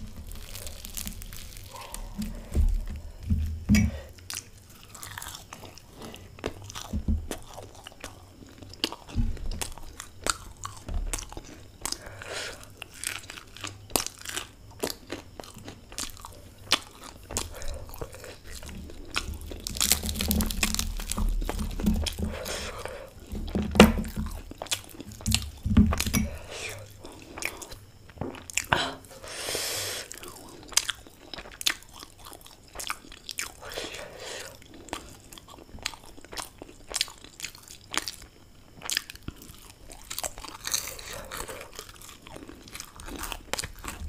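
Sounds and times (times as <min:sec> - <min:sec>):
crunchy chewing: 0:00.0 - 0:44.0.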